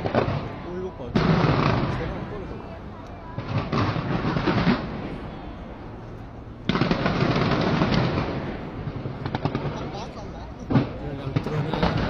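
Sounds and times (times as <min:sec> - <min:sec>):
fireworks crackling: 0:00.0 - 0:02.7, 0:03.4 - 0:06.0, 0:06.6 - 0:12.0.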